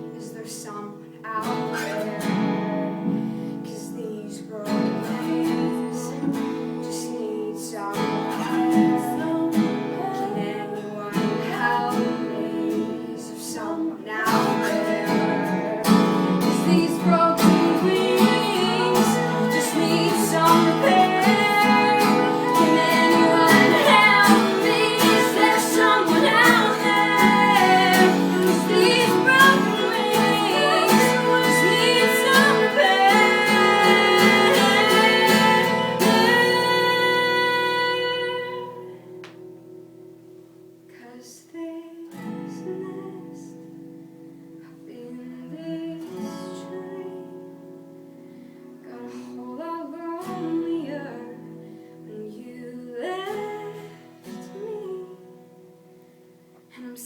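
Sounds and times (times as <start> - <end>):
woman singing: 0.0 - 39.3, 40.9 - 43.9, 44.6 - 47.6, 48.8 - 55.8, 56.7 - 57.0
acoustic guitar: 0.0 - 57.0.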